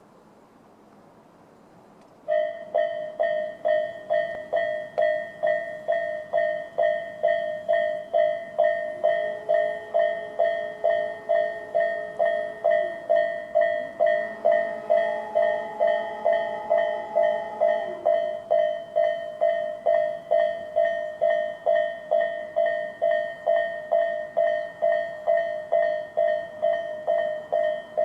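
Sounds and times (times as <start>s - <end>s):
level crossing warning bell: 2.2s - 28.0s
steady low tone: 2.3s - 28.0s.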